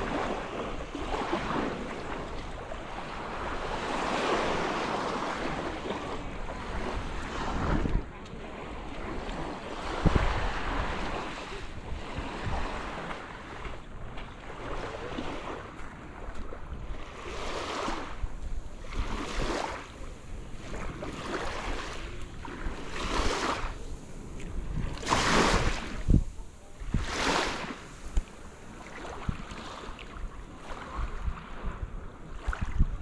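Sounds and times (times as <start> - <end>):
waves breaking on sandy beach: 0.0 - 33.0
wind rumbling on microphone: 0.0 - 33.0.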